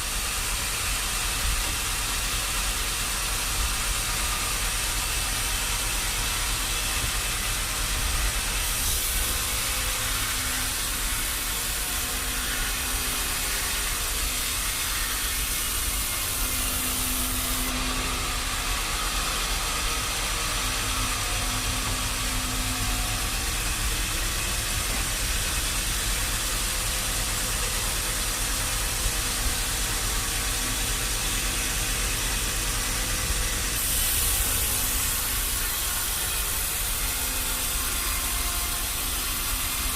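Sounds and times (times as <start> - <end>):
machinery running: 0.0 - 39.9.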